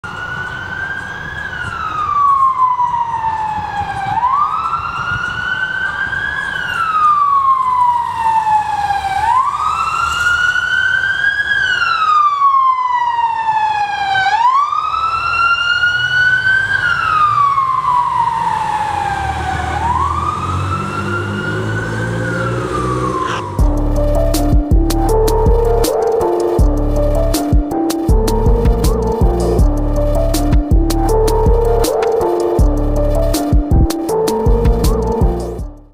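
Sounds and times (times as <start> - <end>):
electronic siren wailing: 0.1 - 35.8.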